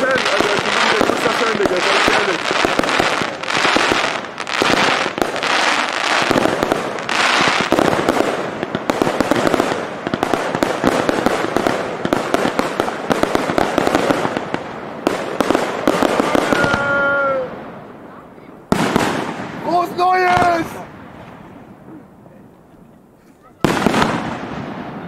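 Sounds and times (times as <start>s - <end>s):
fireworks bursting: 0.0s - 22.2s, 23.6s - 25.0s
fireworks crackling: 0.0s - 25.0s.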